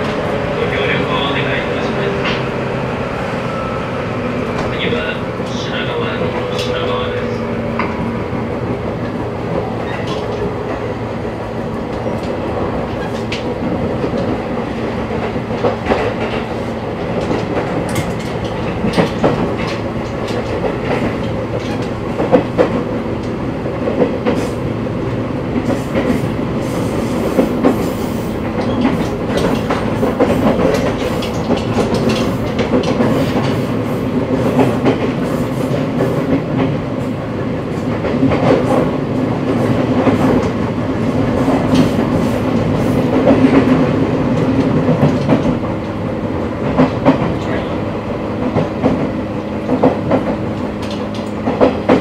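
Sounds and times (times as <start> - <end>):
rail joints clacking: 0.0 - 52.0
train motors and wheels rumbling: 0.0 - 52.0.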